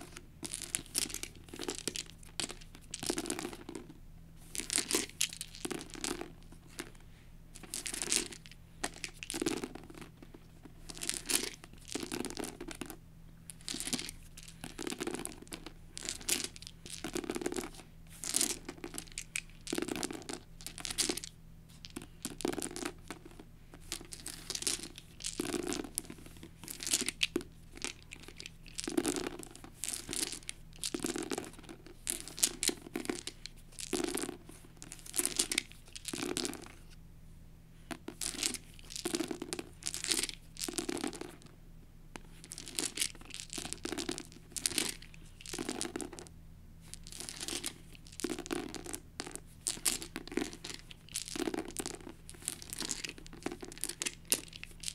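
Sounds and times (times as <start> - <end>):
plastic dice rattling and clattering: 0.0 - 3.9, 4.5 - 7.0, 7.6 - 36.8, 37.9 - 41.5, 42.2 - 46.3, 46.9 - 54.9.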